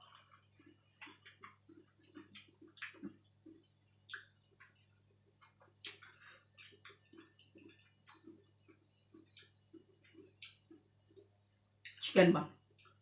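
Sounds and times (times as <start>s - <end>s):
person chewing food: 0.0s - 11.6s
low steady hum: 0.0s - 13.0s.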